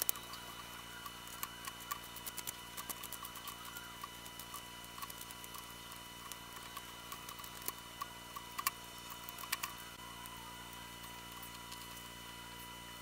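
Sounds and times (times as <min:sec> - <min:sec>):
high-pitched electrical whine: 0:00.0 - 0:13.0.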